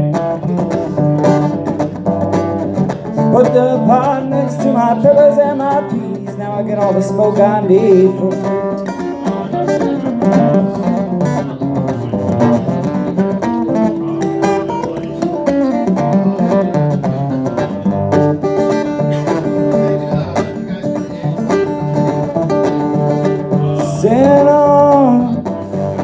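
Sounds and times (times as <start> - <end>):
acoustic guitar country instrumental: 0.0 - 26.0.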